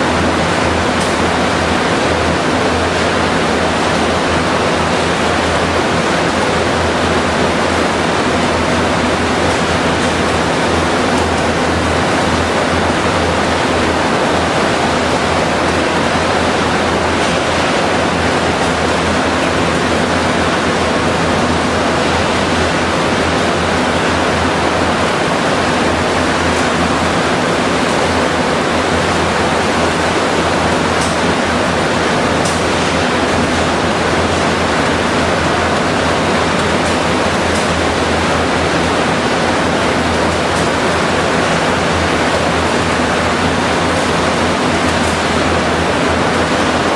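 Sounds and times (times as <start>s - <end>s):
machinery roar: 0.0s - 46.9s.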